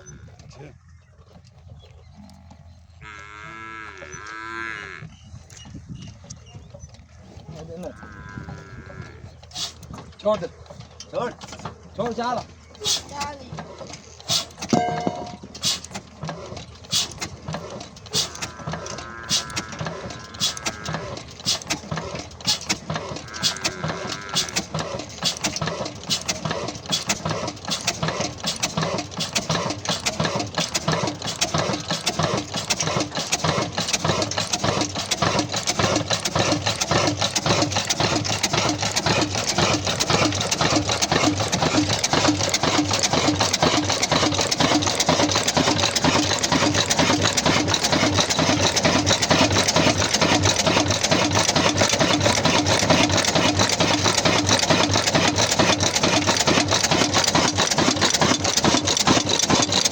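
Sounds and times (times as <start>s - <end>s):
diesel engine chugging: 5.2s - 59.9s.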